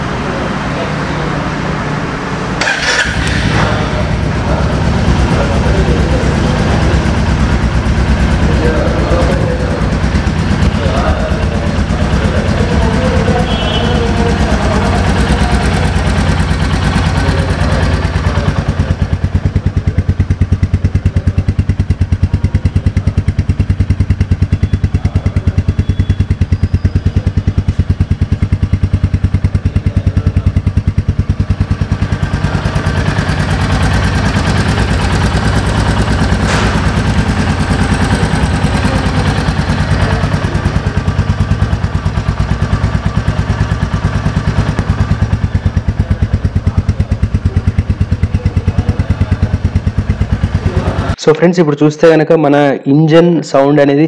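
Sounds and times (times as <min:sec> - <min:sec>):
motorcycle engine idling: 0:00.0 - 0:51.2.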